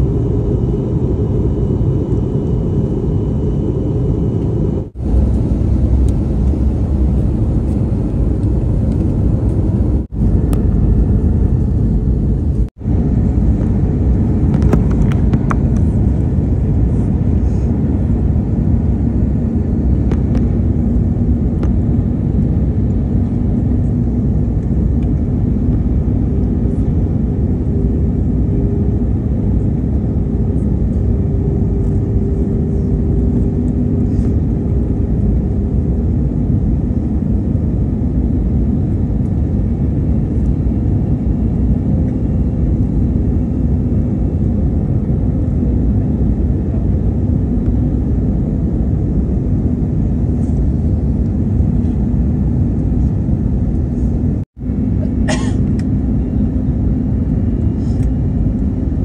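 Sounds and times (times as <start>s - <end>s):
faint engine hum tones: 0.0s - 59.0s
jet engines rumbling in cabin: 0.0s - 59.0s.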